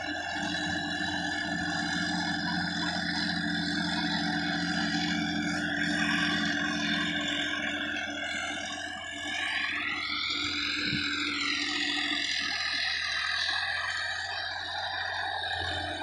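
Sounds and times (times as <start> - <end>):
steady whine: 0.0 - 16.0
tractor engine running: 0.0 - 16.0.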